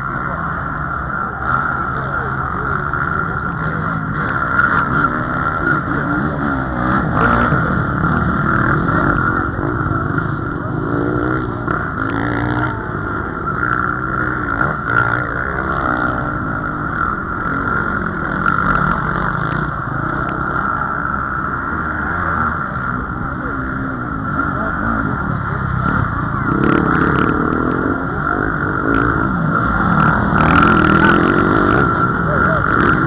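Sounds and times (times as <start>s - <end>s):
motocross motorcycles revving: 0.0s - 33.0s.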